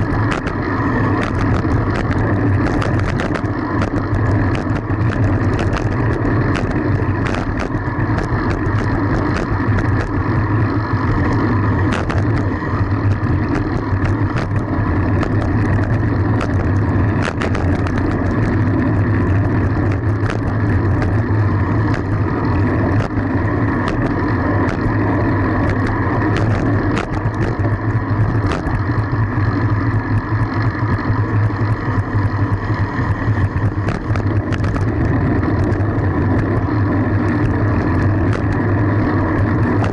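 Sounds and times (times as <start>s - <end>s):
small clicks and rattles: 0.0s - 39.9s
wind and road noise: 0.0s - 39.9s.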